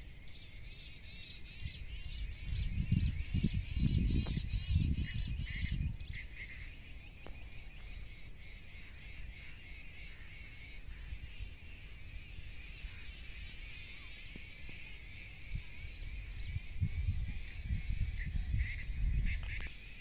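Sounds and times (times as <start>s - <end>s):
insects chirping: 0.0s - 20.0s
birds chirping: 0.2s - 20.0s.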